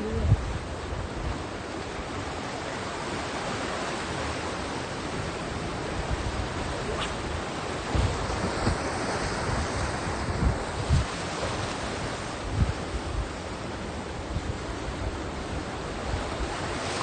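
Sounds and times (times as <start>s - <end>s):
wind on microphone: 0.0s - 2.3s, 3.0s - 17.0s
sea surf breaking on shore: 0.0s - 17.0s.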